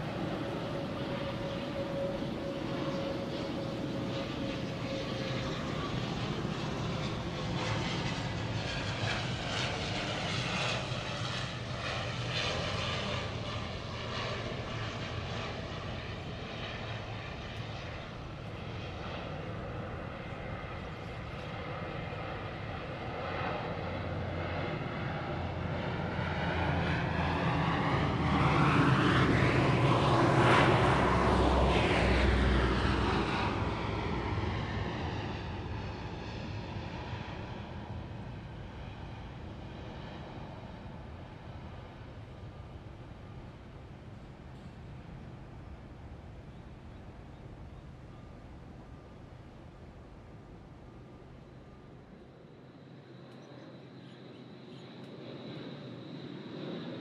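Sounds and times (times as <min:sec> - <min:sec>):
military aircraft flying past: 0:00.0 - 0:57.0.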